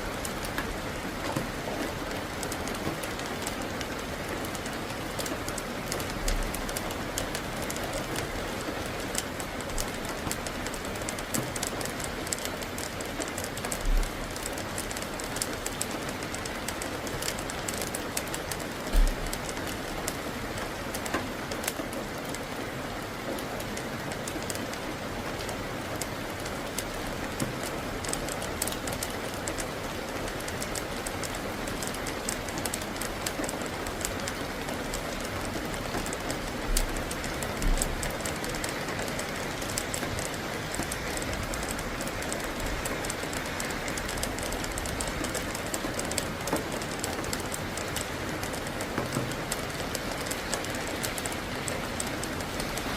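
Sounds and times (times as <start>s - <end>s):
rain falling: 0.0s - 52.9s
raindrops ticking on surfaces: 0.0s - 52.9s.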